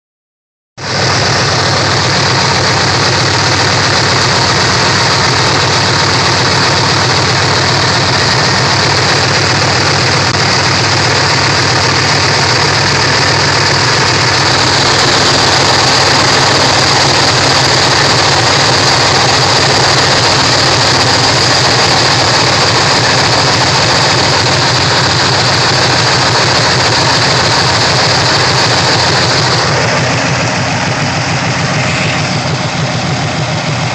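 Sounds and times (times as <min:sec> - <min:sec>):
car engine idling: 0:00.8 - 0:33.9.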